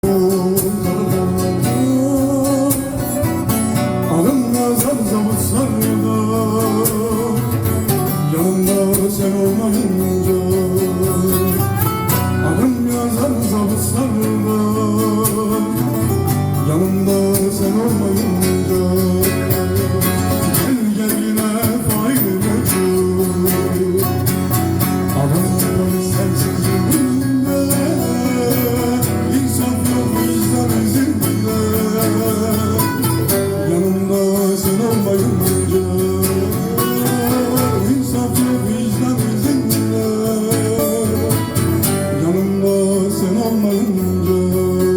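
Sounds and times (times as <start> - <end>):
man singing with vibrato: 0.0 - 44.9
plucked guitar: 0.0 - 44.9.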